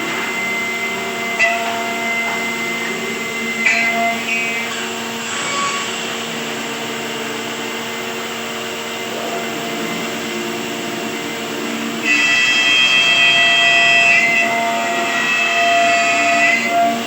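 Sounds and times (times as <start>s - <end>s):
high-pitched whine: 0.0s - 17.0s
woodworking power tool running: 0.0s - 17.0s.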